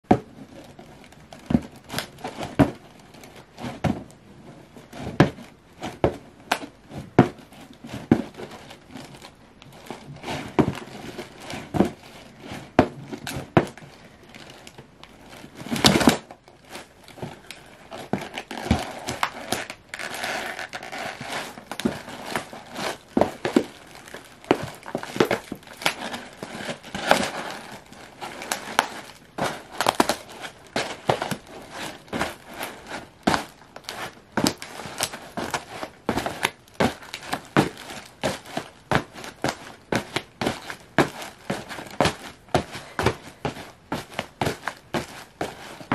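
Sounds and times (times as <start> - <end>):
cardboard crinkling: 0.1 - 45.9
cardboard box being crushed: 1.3 - 2.8, 5.0 - 45.9.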